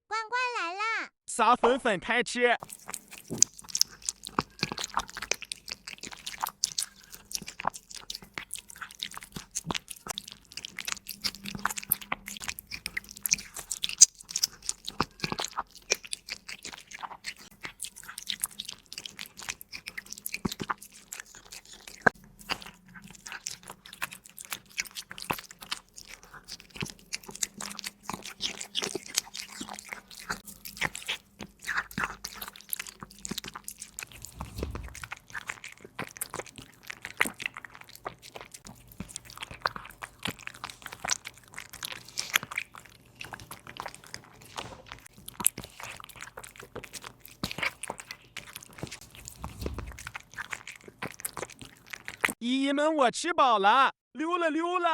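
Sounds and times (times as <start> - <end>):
cat crunching bones: 2.6 - 52.4.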